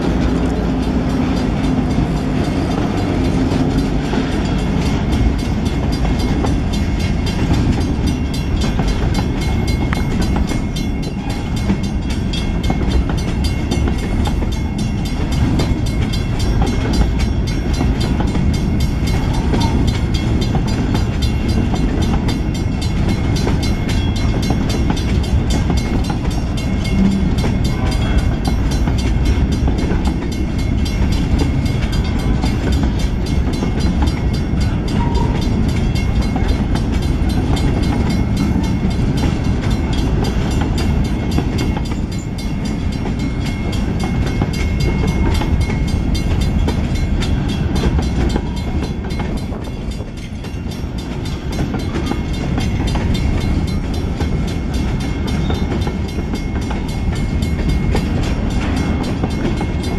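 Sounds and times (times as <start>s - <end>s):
freight train rumbling past: 0.0s - 59.9s
steel wheels clattering on rails: 0.0s - 59.9s.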